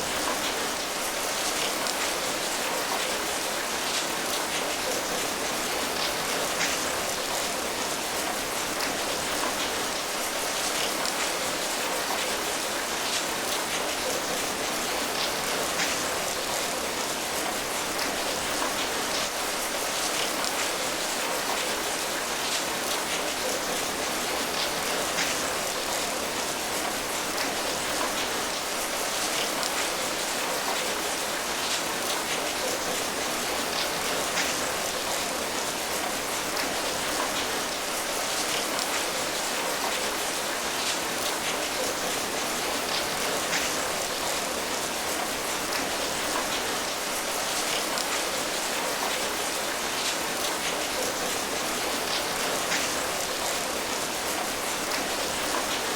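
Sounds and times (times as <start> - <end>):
rain pattering: 0.0 - 55.9.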